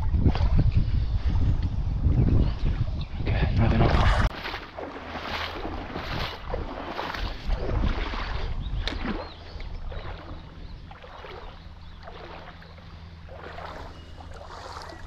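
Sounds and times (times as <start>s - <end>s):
wind rumble on microphone: 0.0s - 15.0s
legs wading through water: 2.6s - 15.0s.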